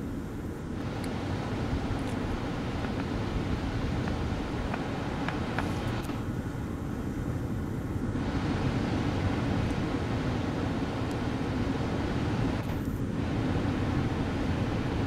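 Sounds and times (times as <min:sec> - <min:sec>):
ocean surf breaking: 0:00.0 - 0:15.0
wind noise on microphone: 0:00.0 - 0:15.0.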